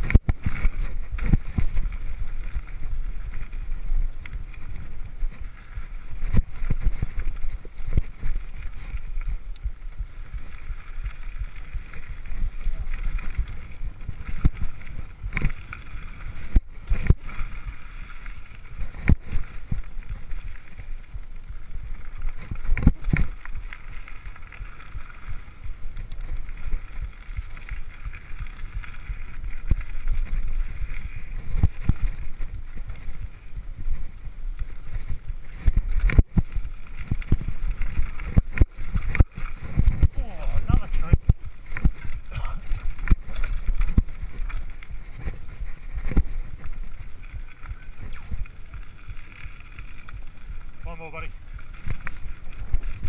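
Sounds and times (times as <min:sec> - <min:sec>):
bike knocking and rattling: 0:00.0 - 0:53.0
bike tyres rumbling on dirt: 0:00.0 - 0:53.0
wind buffeting microphone: 0:00.0 - 0:53.0.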